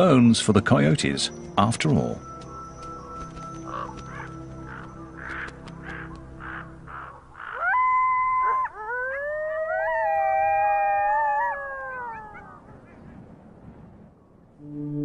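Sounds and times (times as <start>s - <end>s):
canids howling: 0.8s - 13.3s.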